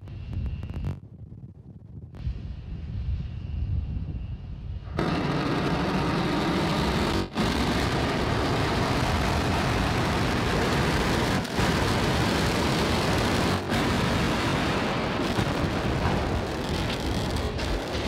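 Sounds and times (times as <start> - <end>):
rocket engines roaring: 2.4 - 18.0.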